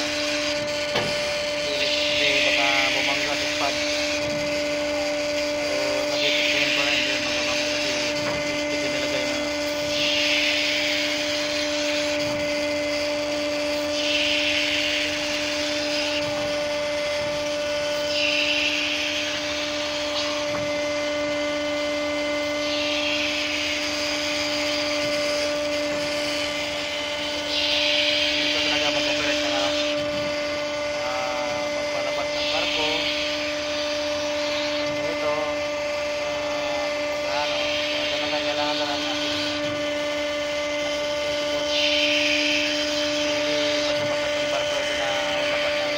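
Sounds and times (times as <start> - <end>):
winch machinery humming: 0.0 - 45.9.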